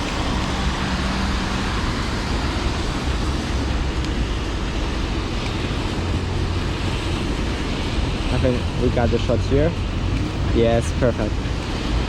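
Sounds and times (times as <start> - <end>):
traffic on wet street: 0.0 - 12.0.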